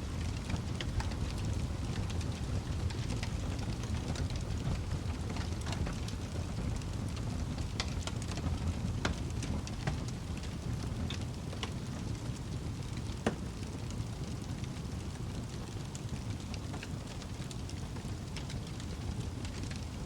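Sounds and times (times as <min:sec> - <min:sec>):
burning logs crackling and popping: 0:00.0 - 0:20.0
low rumble of flames: 0:00.0 - 0:20.0.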